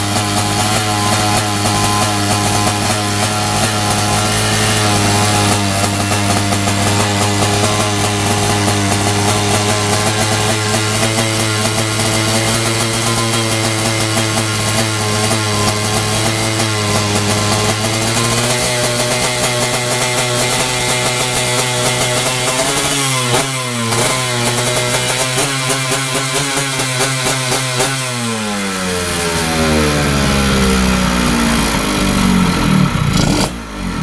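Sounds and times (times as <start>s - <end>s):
motorcycle engine revving fast: 0.0s - 34.0s.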